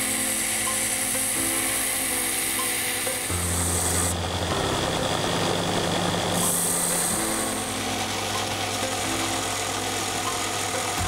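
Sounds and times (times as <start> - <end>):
belt sander grinding metal: 0.0 - 11.0.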